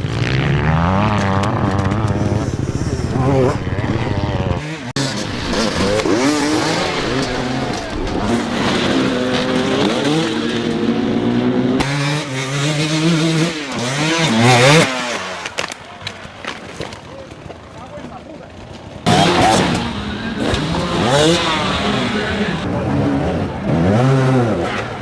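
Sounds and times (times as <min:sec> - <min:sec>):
dirt bike engine revving: 0:00.0 - 0:15.6, 0:19.0 - 0:25.0.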